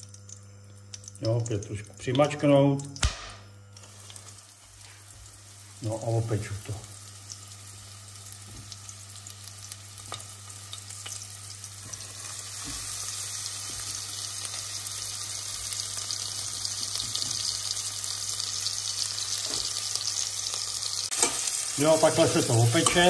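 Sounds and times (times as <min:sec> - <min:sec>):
pork chops sizzling in lard: 0:02.4 - 0:23.0.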